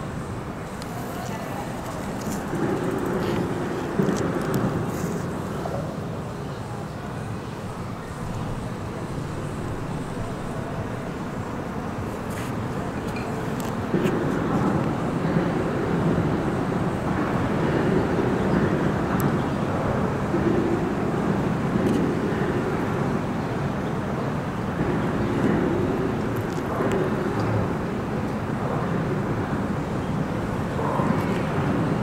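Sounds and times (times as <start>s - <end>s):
highway traffic rushing: 0.0s - 32.0s.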